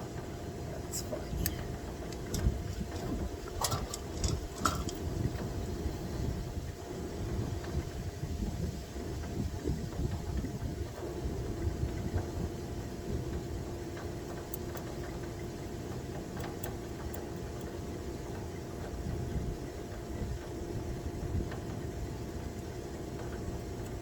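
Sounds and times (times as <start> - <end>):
faint hum: 0.0 - 24.0
low mechanical rumble: 0.0 - 24.0.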